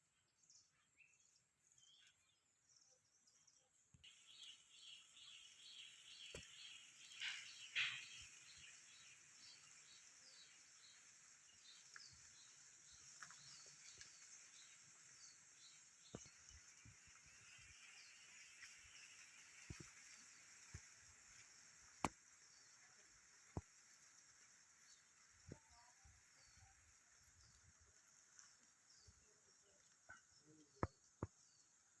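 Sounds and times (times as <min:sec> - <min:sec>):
steady high hiss: 0:04.0 - 0:32.0.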